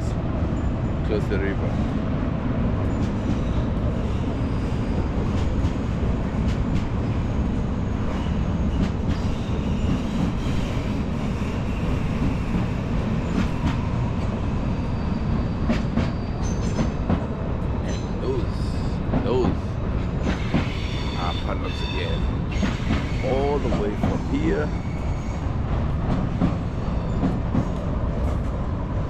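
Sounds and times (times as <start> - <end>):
train rumbling over steel bridge: 0.0 - 29.0.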